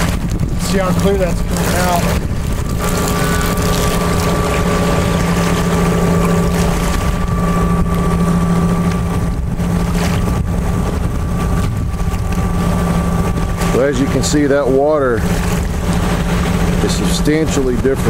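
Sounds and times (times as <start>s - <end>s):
steady motor drone: 0.0s - 18.0s
wind buffeting microphone: 0.0s - 18.0s.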